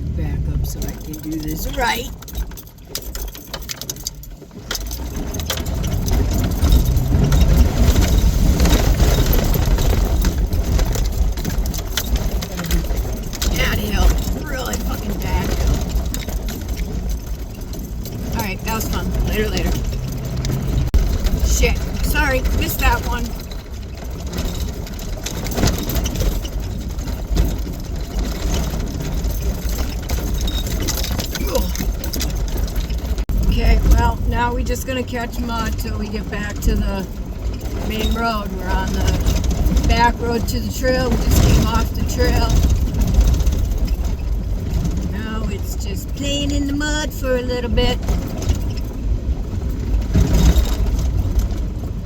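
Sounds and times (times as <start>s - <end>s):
vehicle engine pulling under load: 0.0s - 52.0s.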